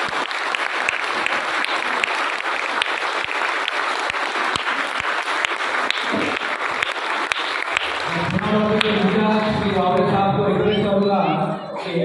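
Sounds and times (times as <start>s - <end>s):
audience applause: 0.0s - 10.6s.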